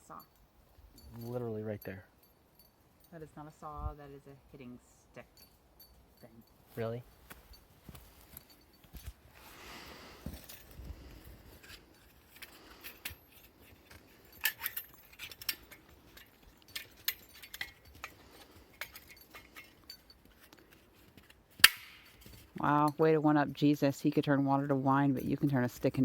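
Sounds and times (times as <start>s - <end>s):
light clinks of gear handled: 0.1s - 3.8s, 5.2s - 23.0s.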